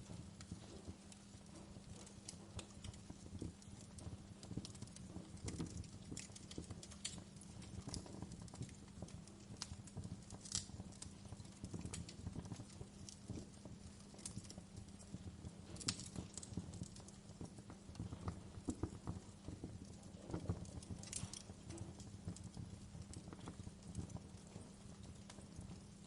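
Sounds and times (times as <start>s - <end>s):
low rumble of burning: 0.0s - 26.0s
wood fire crackling: 0.0s - 26.0s.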